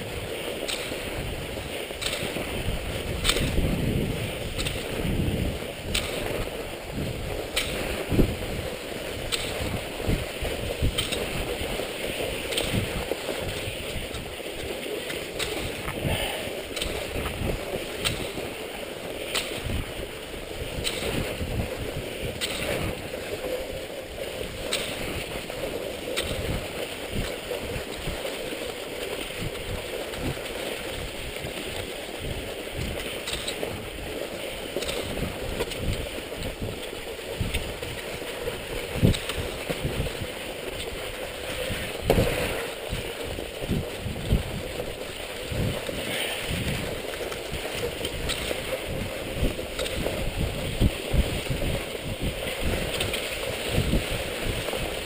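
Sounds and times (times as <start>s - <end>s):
ski poles clicking in snow: 0.0s - 55.0s
skis gliding on snow: 0.0s - 55.0s.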